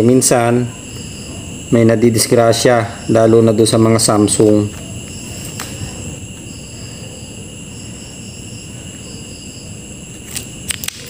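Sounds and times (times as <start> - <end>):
crickets trilling: 0.0 - 11.0
steady low background hum: 0.0 - 11.0.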